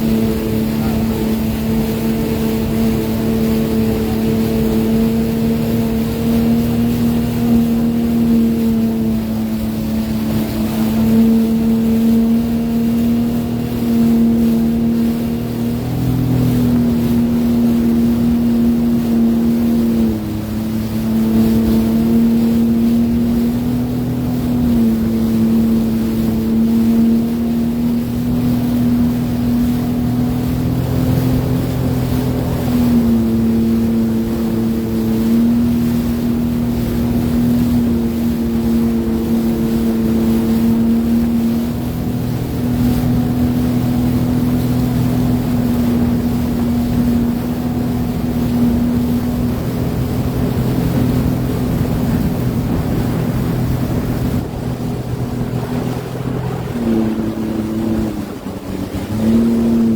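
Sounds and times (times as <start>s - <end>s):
personal watercraft engine running: 0.0s - 59.9s.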